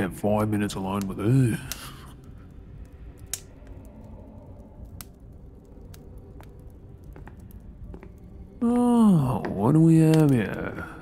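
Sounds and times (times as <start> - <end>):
soft clicks and crackles: 0.0 - 11.0
steady low rumble: 0.0 - 11.0.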